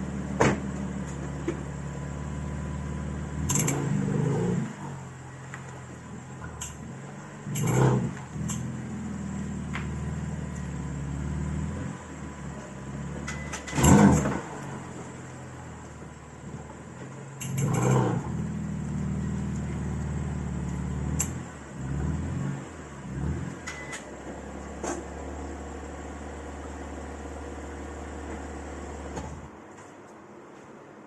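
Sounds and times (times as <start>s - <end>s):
car engine humming: 0.0s - 29.6s
loud engine surges: 0.9s - 29.6s.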